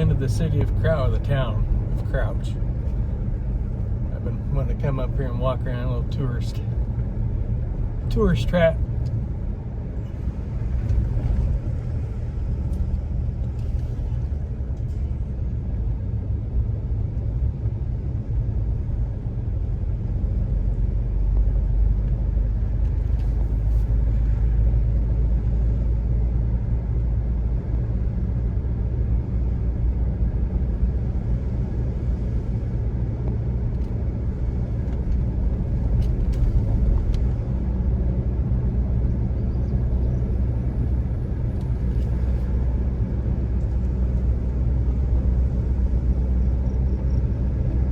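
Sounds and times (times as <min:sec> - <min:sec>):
vehicle engine and road rumble: 0:00.0 - 0:47.9.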